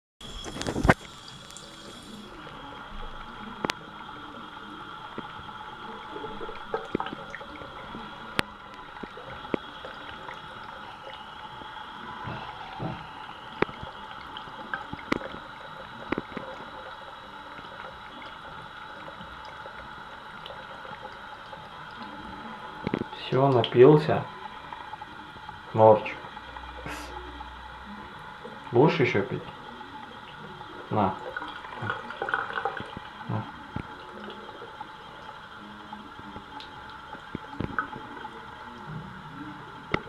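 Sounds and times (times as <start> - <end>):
running water: 0.2 - 40.0.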